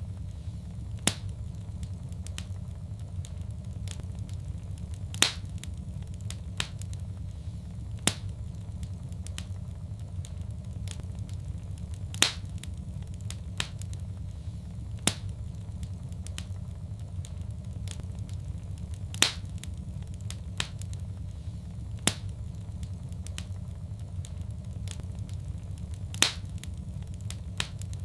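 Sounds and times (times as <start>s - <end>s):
fireplace fire crackling: 0.0s - 28.0s
sharp fire pops: 0.0s - 28.0s.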